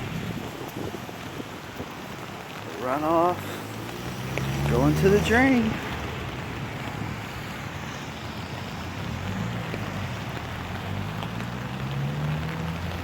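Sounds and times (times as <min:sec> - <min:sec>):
rainwater rushing into drain: 0:00.0 - 0:13.0.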